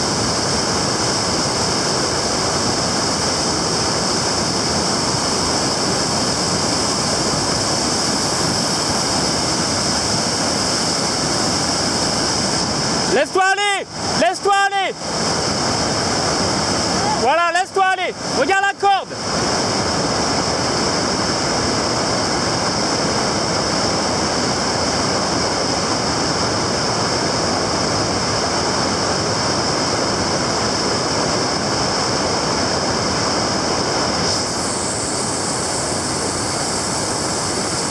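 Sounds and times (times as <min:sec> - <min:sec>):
whitewater river rushing: 0:00.0 - 0:37.9.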